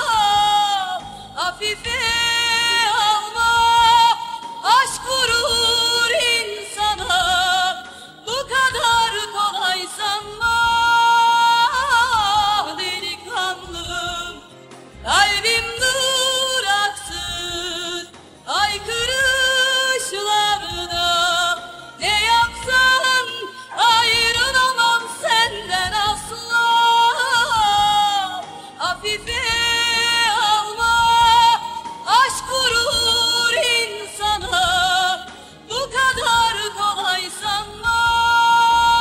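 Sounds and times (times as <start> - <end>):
woman singing: 0.0 - 39.0.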